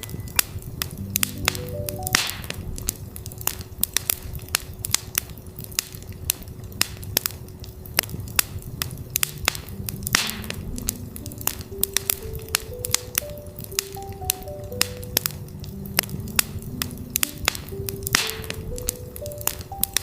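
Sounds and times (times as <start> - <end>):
soft ambient notes: 0.0 - 5.8, 8.9 - 20.0
campfire crackling and popping: 0.0 - 20.0.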